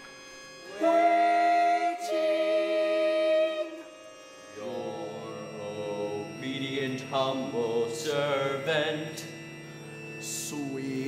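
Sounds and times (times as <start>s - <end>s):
vocal ensemble singing chord: 0.0s - 11.0s.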